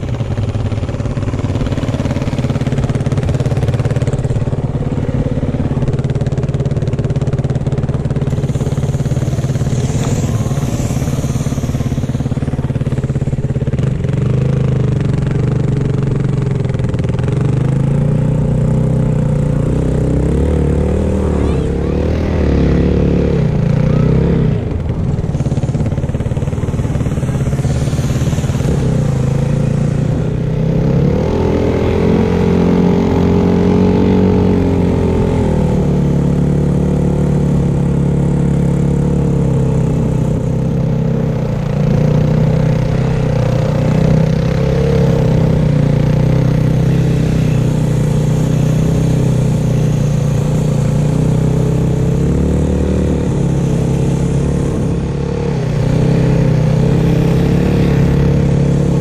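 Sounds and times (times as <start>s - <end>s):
snowbike engine revving: 0.0s - 59.0s.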